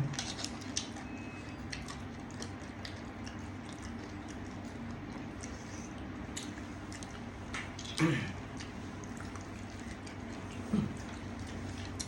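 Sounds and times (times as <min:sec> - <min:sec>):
faint chewing: 0:00.0 - 0:12.0
low background hum: 0:00.0 - 0:12.0.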